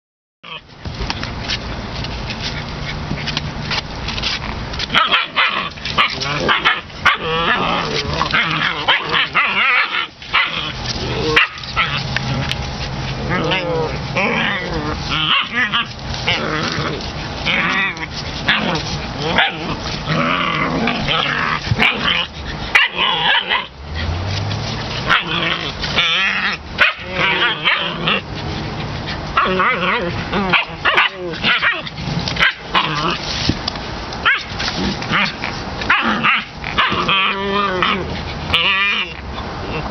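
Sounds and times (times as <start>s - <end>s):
puppies yipping and whining: 1.7s - 33.5s, 34.2s - 39.9s.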